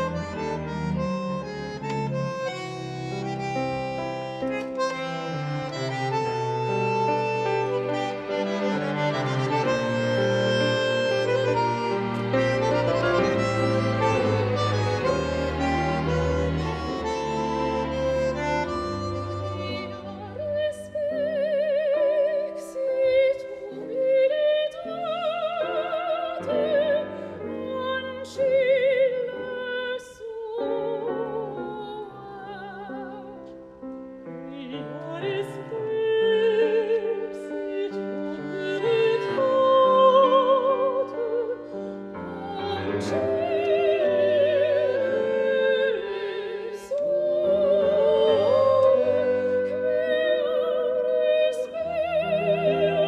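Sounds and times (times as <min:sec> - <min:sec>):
string orchestra: 0:00.0 - 0:53.0
women singing a classical duet: 0:03.4 - 0:33.6, 0:34.2 - 0:53.0.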